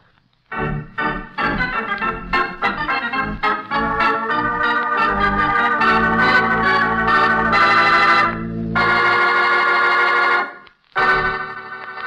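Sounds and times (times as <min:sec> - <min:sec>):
organ music: 0:00.5 - 0:12.0.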